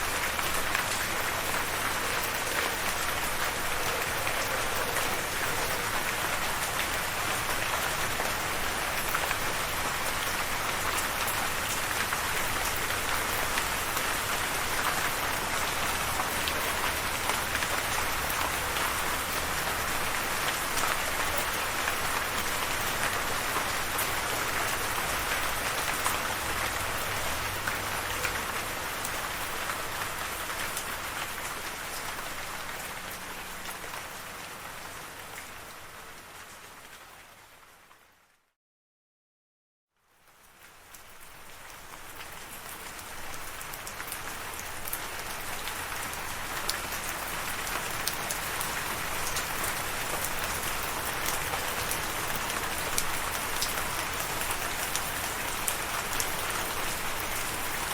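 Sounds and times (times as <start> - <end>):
steady rain falling: 0.0 - 38.5, 40.0 - 57.9.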